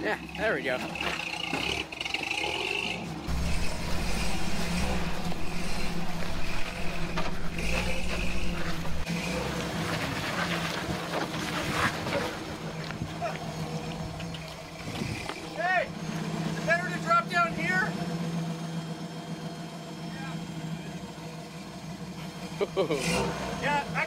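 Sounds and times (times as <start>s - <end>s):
engine running at low revs: 0.2s - 24.0s.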